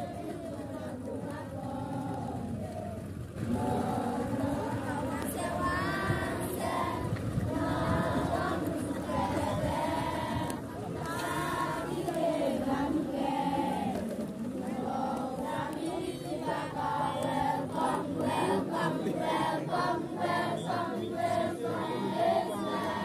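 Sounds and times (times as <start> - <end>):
crowd singing in chorus: 0.0 - 23.0.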